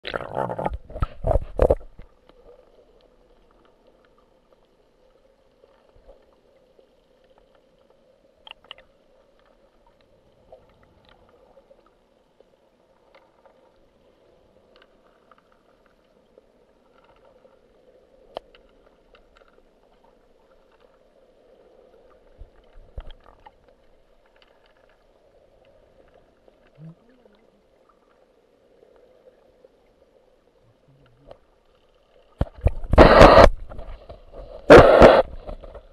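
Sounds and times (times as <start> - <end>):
low underwater hum: 0.0 - 35.9.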